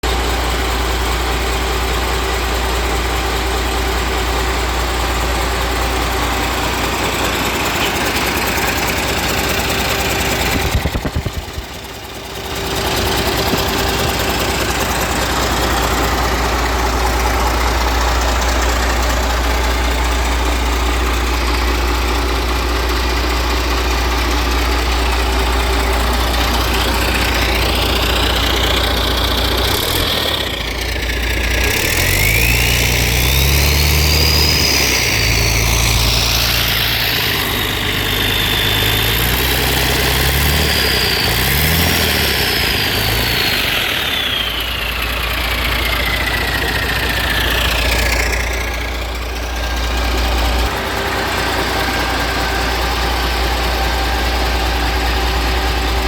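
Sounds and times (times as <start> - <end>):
diesel engine idling with knocking: 0.0 - 56.0.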